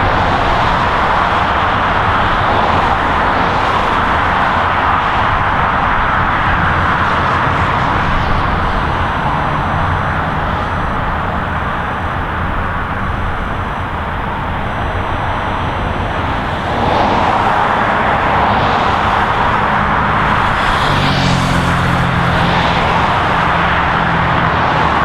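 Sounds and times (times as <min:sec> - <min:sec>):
heavy vehicle engine hum: 0:00.0 - 0:25.0
highway traffic noise: 0:00.0 - 0:25.0
vehicle passing close: 0:00.0 - 0:25.0.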